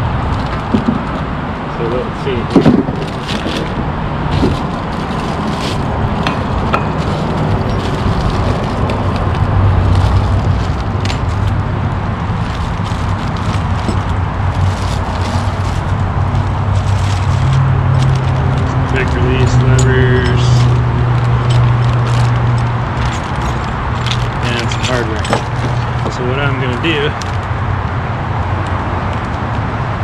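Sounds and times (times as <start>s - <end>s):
freeway traffic noise: 0.0s - 30.0s
clicks and rustles of unpacking: 2.5s - 27.4s.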